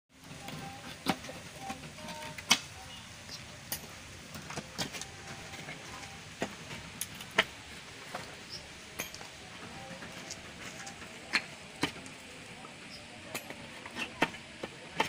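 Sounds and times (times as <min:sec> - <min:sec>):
steady background noise: 0:00.1 - 0:15.0.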